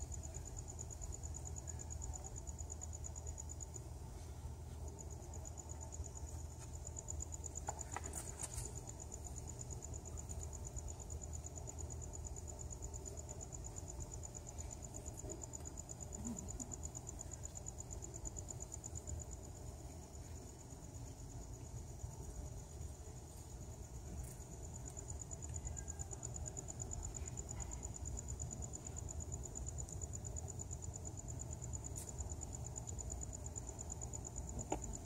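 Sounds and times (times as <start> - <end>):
cricket chirping: 0.0 - 35.0.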